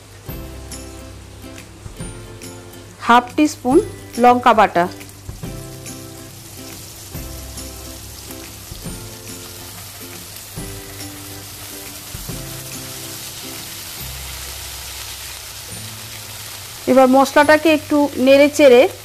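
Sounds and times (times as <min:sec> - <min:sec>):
soft background music: 0:00.0 - 0:19.0
spices sizzling in hot oil: 0:00.0 - 0:19.0.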